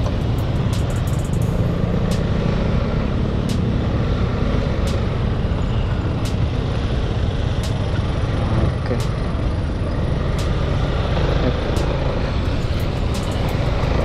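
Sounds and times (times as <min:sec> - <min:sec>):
passing motorbikes and cars: 0:00.0 - 0:14.0.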